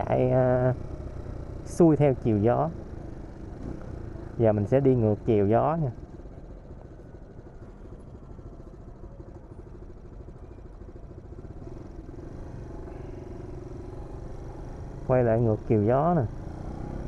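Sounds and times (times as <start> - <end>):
motorbike engine hum: 0.0 - 17.0
road noise: 0.0 - 17.0.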